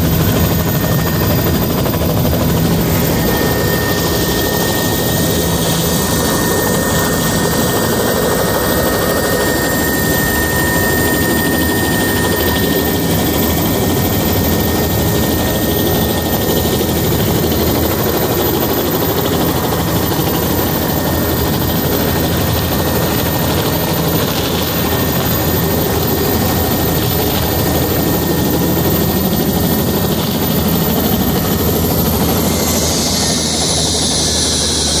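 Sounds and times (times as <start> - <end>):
helicopter engine and rotor: 0.0 - 35.0
high turbine whine: 0.0 - 35.0.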